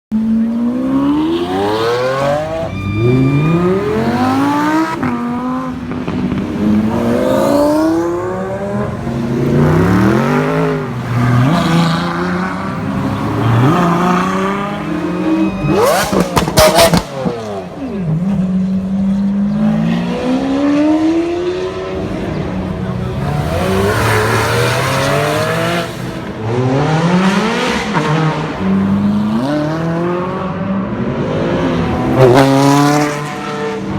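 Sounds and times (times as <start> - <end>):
car engines revving: 0.1 - 33.9.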